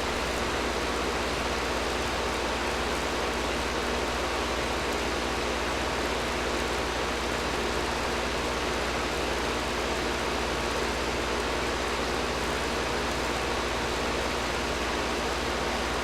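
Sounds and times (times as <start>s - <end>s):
air conditioner blowing air: 0.0s - 16.0s.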